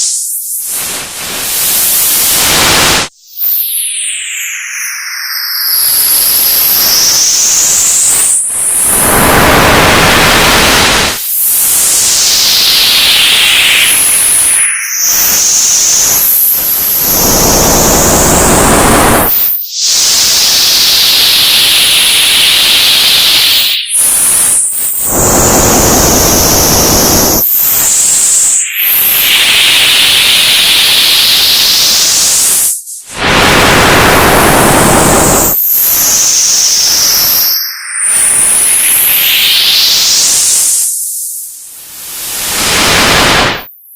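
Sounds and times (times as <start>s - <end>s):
whistling tones sweeping in pitch: 3.1s - 40.8s.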